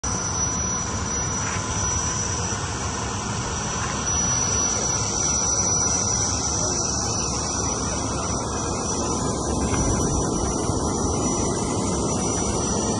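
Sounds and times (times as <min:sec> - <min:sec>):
jet engine running: 0:00.0 - 0:12.9.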